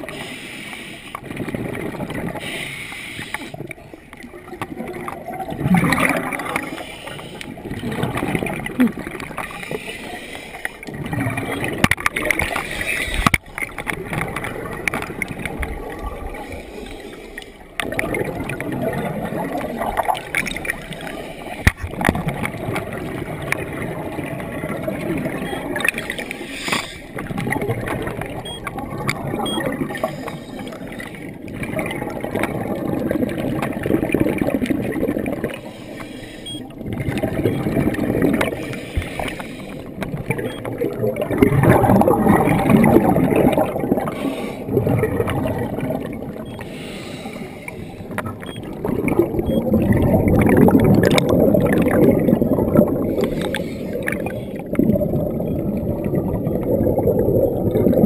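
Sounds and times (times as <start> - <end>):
divers exhaled bubbles: 0.0 - 58.0
underwater rushing water: 0.0 - 58.0.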